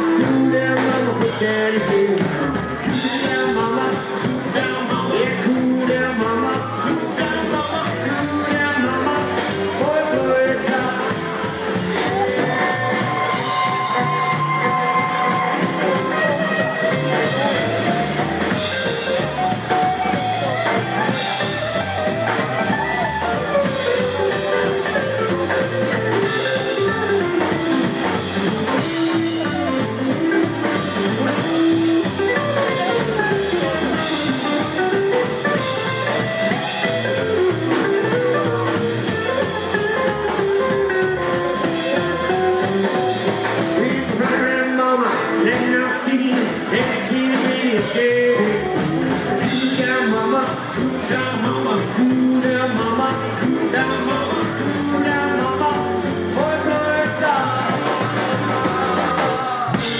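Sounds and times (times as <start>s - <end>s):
acoustic guitar: 0.0s - 59.9s
drum kit: 0.0s - 59.9s
electric guitar melody: 0.0s - 59.9s
upright double bass: 0.0s - 59.9s.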